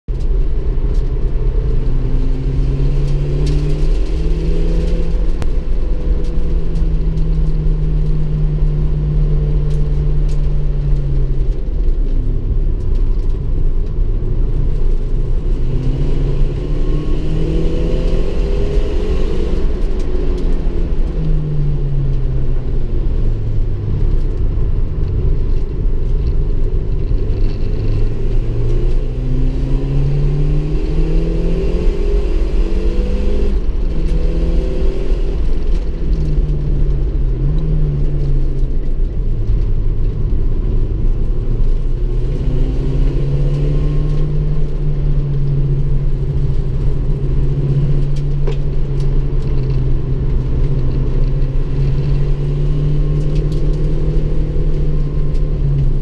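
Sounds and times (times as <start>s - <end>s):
low rumble: 0.1s - 56.0s
car engine revving: 0.2s - 56.0s.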